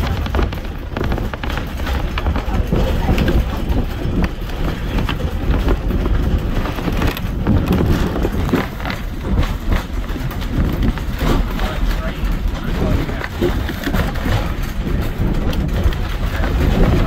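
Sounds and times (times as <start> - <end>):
train rumble: 0.0 - 17.0
wheels clicking and clacking: 0.0 - 17.0.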